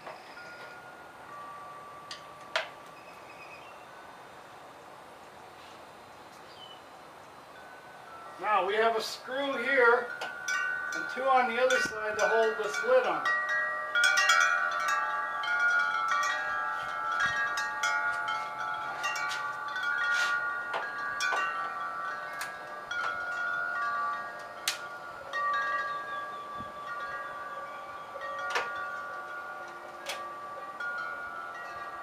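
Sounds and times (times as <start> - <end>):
wind chimes ringing: 0.0 - 5.5, 6.1 - 32.0.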